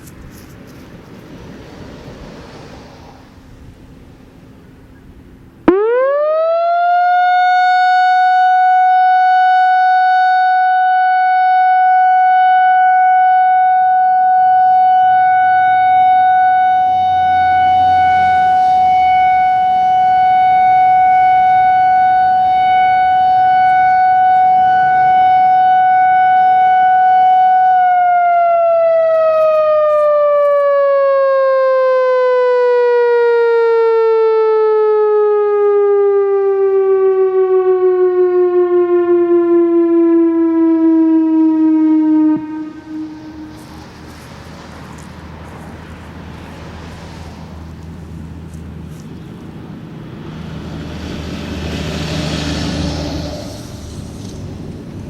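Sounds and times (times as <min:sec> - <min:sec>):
electronic warning siren: 0:05.6 - 0:46.6, 0:47.6 - 0:55.0.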